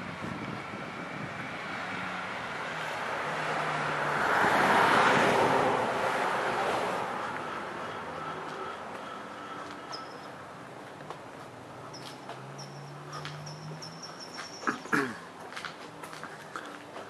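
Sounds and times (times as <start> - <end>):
vehicle passing road noise: 0.0 - 17.0.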